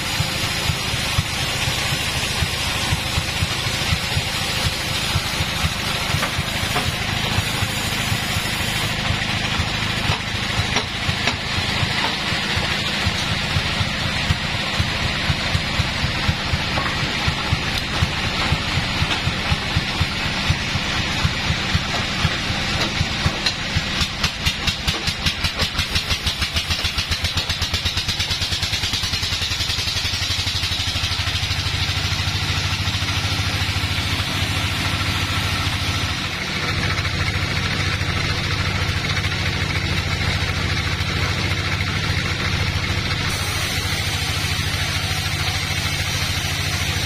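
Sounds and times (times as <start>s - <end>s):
sawmill engine thumping: 0.0s - 47.0s.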